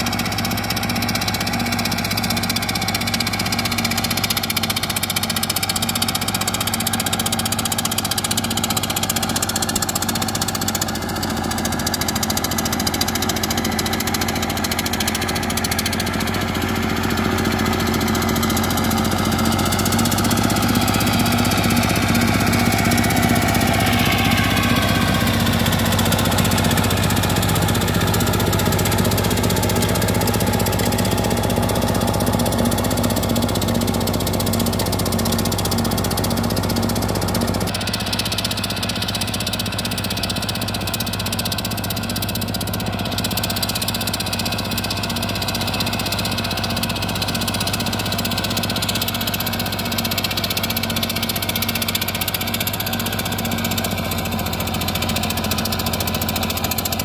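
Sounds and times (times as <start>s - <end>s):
diesel engine running under load: 0.0s - 57.0s
rotary tiller churning water: 3.3s - 57.0s.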